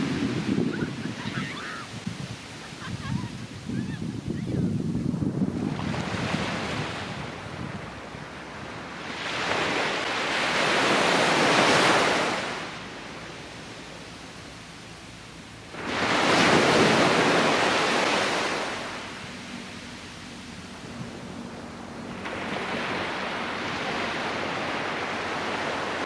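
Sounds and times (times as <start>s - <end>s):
sea waves breaking on beach: 0.0s - 26.0s.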